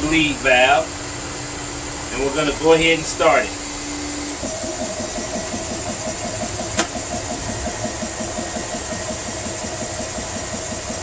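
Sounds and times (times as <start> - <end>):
air compressor pumping: 0.0 - 11.0
cooling fans hissing: 0.0 - 11.0.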